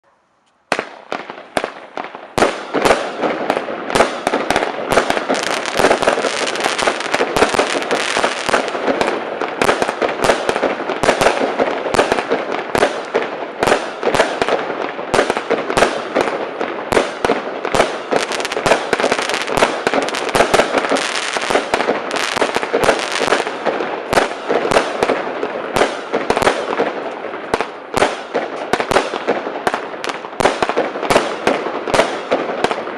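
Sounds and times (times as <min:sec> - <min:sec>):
fireworks cake shots: 0:00.7 - 0:32.9.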